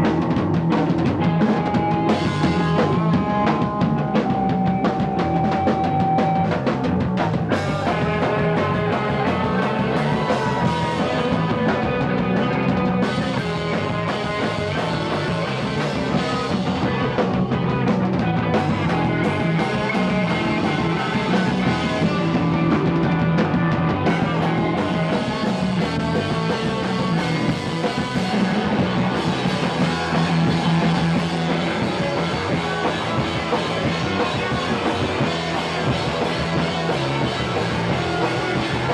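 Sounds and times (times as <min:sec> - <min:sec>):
rock music with drums and guitar: 0:00.0 - 0:38.9.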